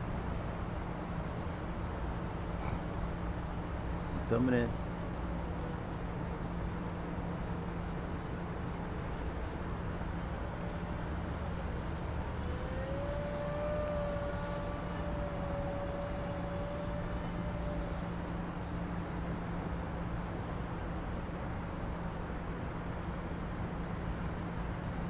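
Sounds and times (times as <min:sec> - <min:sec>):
model airplane motor drone: 0:00.0 - 0:25.0.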